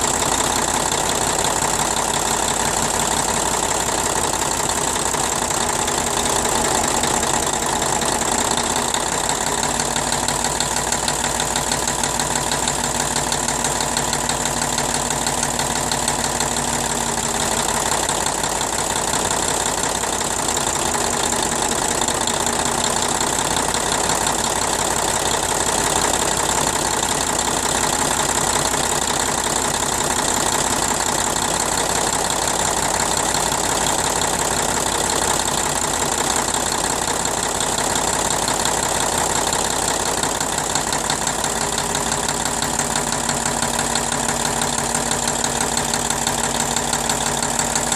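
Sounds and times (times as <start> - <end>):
diesel engine idling with knock: 0.0 - 47.9.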